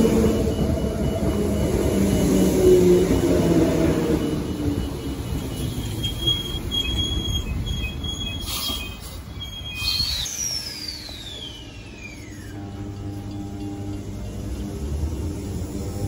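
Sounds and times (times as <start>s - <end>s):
high wheel squeal: 0.0s - 13.4s
electric train rumble: 0.0s - 16.0s.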